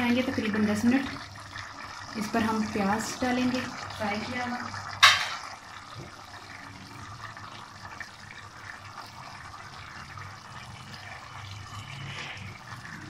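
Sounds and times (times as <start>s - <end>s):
rice bubbling in a pot: 0.0s - 13.0s.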